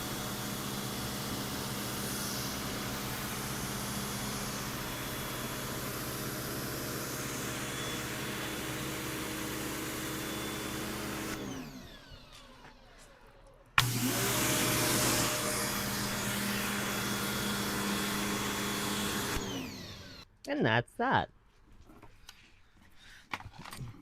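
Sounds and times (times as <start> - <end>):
pressure washer motor: 0.0 - 20.2.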